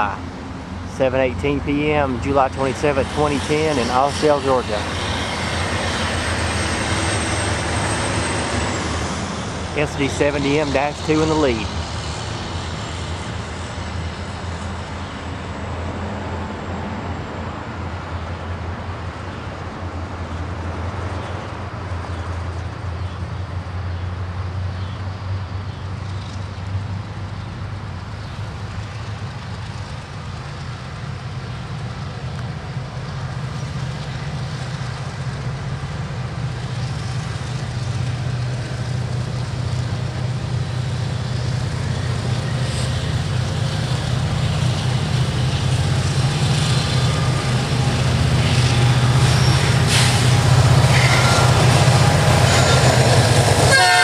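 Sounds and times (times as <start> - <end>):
freight locomotives rumbling: 0.0 - 54.0.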